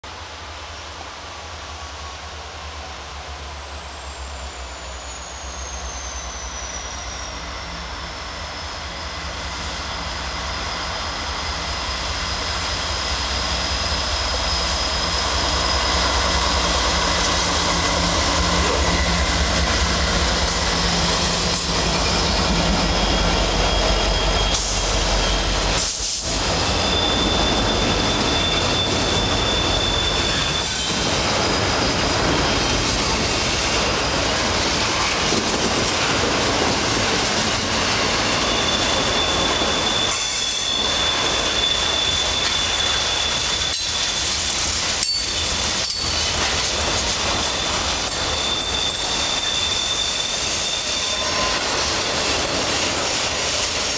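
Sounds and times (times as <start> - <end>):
diesel locomotive rumble: 0.0 - 53.9
high wheel squeal: 1.6 - 53.9.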